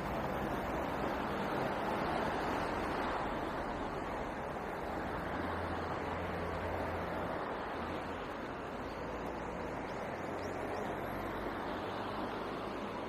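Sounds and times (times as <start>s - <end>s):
low engine hum: 0.0s - 13.0s
road traffic rush: 0.0s - 13.0s.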